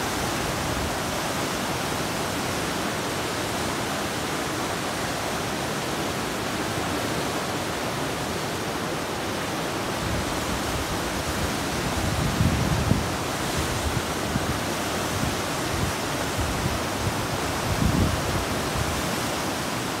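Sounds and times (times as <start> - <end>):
rushing churning water: 0.0 - 20.0.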